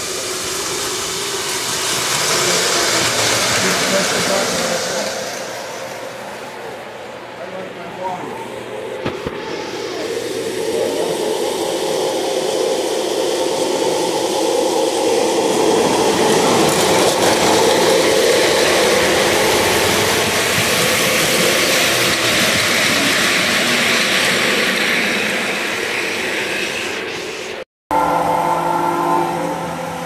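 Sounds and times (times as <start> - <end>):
model train rolling on track: 0.0 - 30.0.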